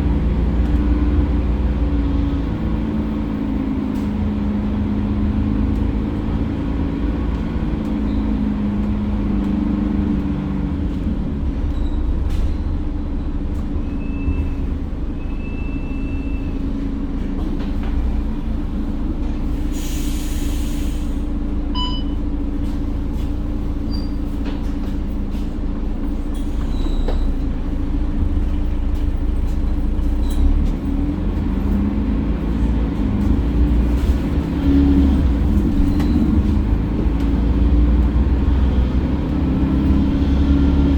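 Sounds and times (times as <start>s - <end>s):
bus diesel engine: 0.0s - 40.9s
road rumble: 0.0s - 40.9s.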